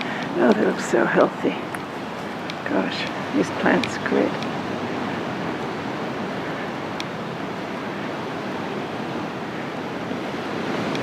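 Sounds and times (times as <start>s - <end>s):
surf waves breaking: 0.0s - 11.0s.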